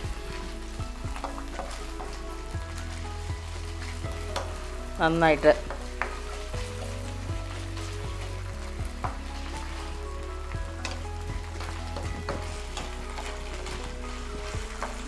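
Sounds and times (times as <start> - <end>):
food sizzling in frying pan: 0.0 - 15.0
spatula scraping pan: 0.0 - 15.0.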